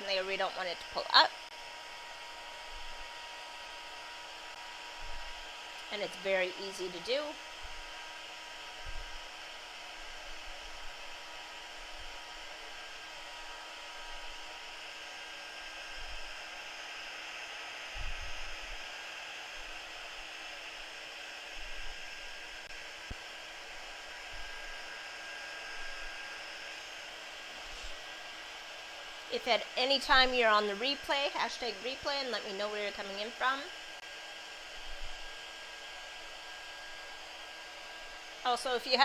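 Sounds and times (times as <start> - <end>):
heat tool blowing air: 0.0 - 39.0.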